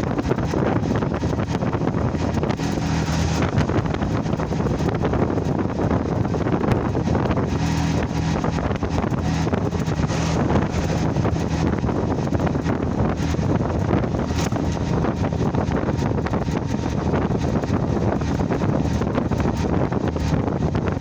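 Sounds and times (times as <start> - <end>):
engine and road hum: 0.0 - 21.0
wind buffeting microphone: 0.0 - 21.0.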